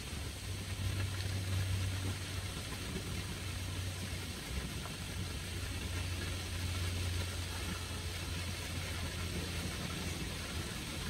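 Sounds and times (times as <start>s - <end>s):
fountain water splashing: 0.0s - 11.0s
steady low hum: 0.0s - 11.0s.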